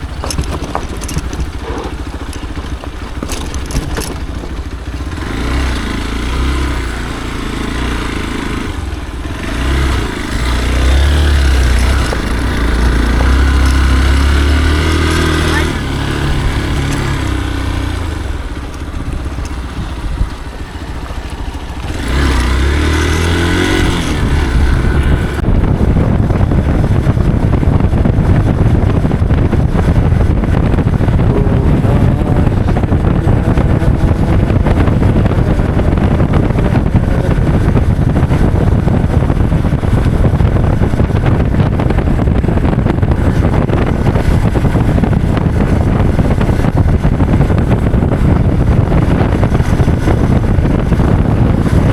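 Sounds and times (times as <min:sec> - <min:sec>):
motorcycle engine revving: 0:00.0 - 0:51.9
wind rushing: 0:08.7 - 0:51.9.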